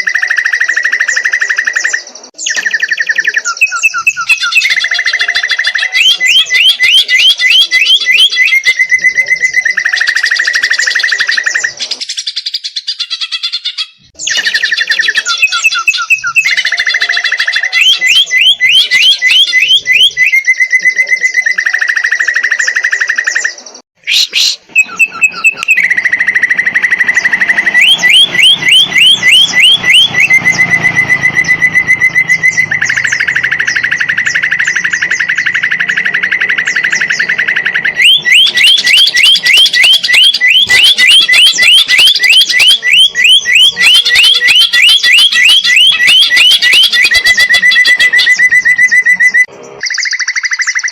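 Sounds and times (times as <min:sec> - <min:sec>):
bird singing whistles and trills: 0:00.0 - 0:50.9.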